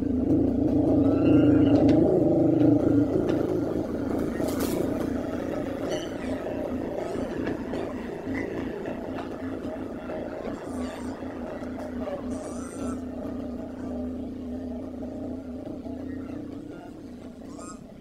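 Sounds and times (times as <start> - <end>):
potter's wheel humming: 0.0 - 18.0.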